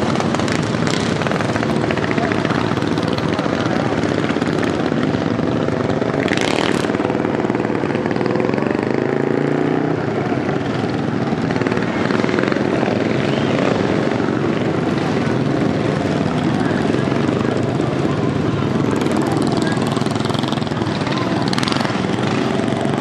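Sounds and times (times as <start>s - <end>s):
lawnmower engine running loud: 0.0s - 23.0s.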